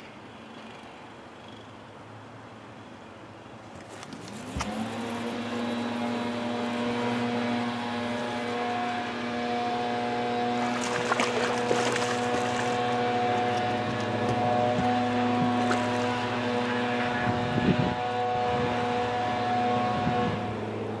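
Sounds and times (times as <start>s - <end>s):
boat motor running: 4.0s - 21.0s.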